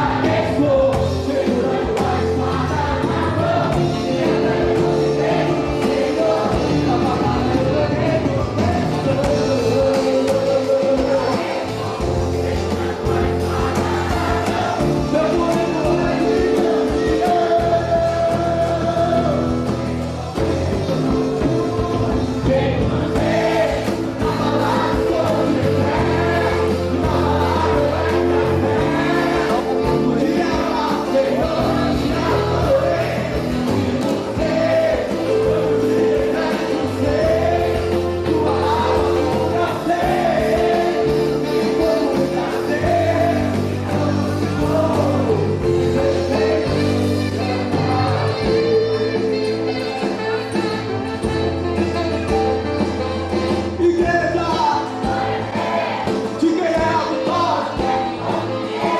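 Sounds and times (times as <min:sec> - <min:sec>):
person singing gospel: 0:00.0 - 0:52.1, 0:53.4 - 0:58.9
band accompaniment: 0:00.0 - 0:58.9.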